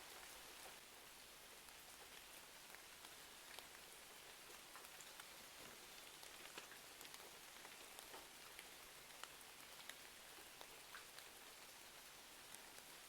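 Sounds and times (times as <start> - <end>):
faint rain hiss: 0.0 - 13.0
small ticks and crackles: 0.0 - 13.0.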